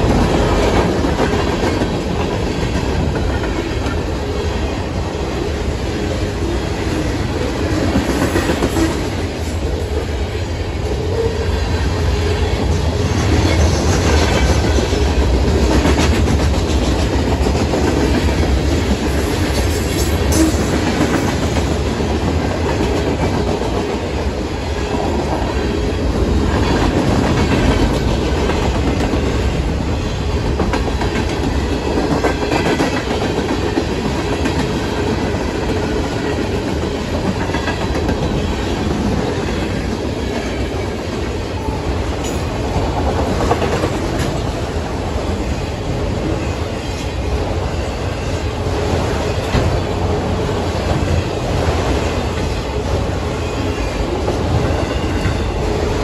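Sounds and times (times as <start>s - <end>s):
train wheels running on rails: 0.0s - 56.0s.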